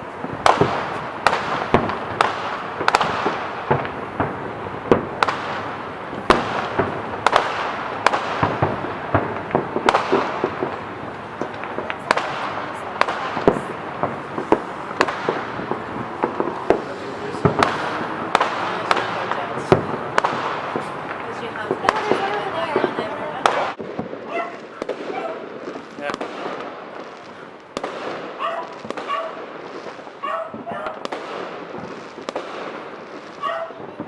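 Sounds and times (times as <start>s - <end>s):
distant fireworks crackling: 0.0s - 34.0s
fireworks bangs and pops: 0.0s - 34.0s.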